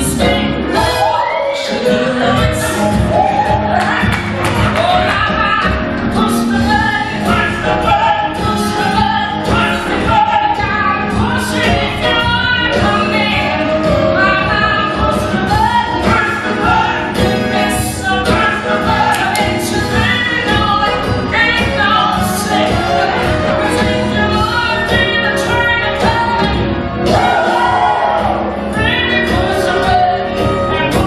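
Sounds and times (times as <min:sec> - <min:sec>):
ensemble voices singing: 0:00.0 - 0:31.0
woman singing lead: 0:00.0 - 0:31.0.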